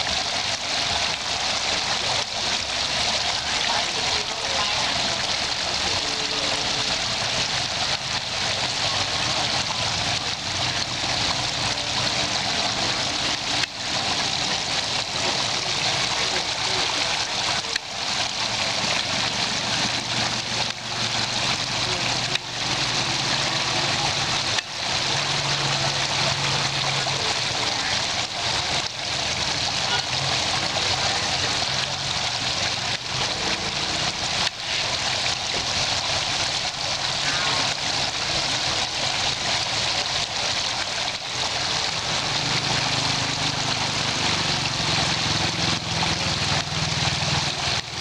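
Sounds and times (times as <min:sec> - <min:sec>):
water splashing into a trough: 0:00.0 - 0:48.0.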